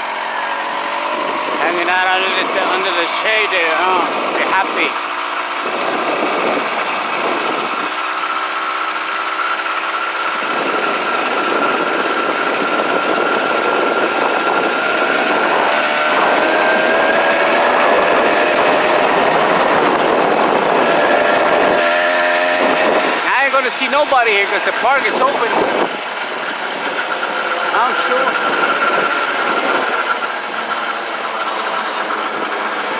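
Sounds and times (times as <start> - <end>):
small gasoline engine running: 0.0 - 32.9.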